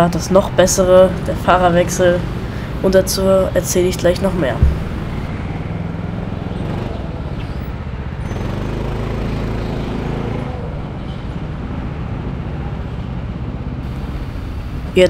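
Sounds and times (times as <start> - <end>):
go-kart motor humming: 0.0 - 13.2.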